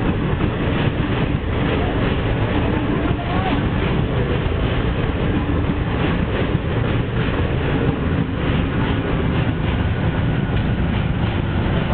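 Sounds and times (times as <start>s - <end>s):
train wheels rumbling on rails: 0.0s - 11.9s.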